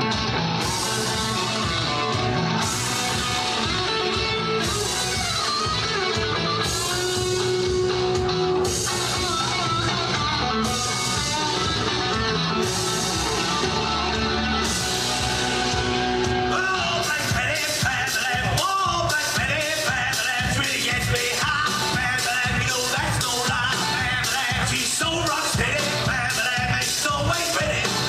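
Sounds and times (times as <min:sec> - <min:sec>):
rockabilly rock music: 0:00.0 - 0:28.0.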